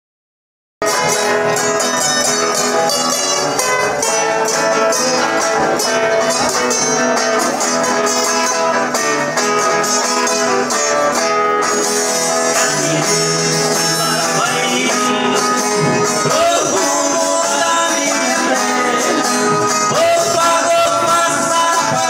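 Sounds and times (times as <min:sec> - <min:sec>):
acoustic guitar strumming: 0:00.8 - 0:22.0.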